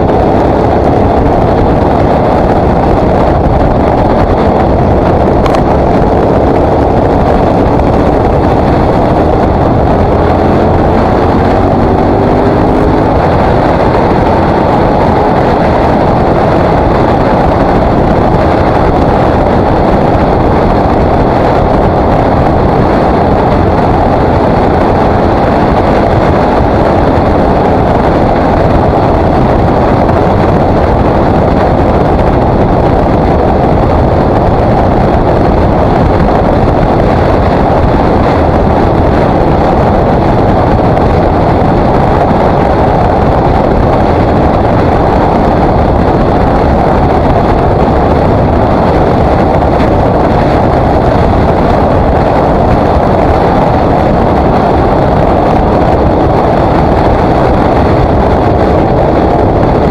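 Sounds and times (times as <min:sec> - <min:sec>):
motorcycle engine drone: 0:00.0 - 0:59.9
wind rushing on microphone: 0:00.0 - 0:59.9.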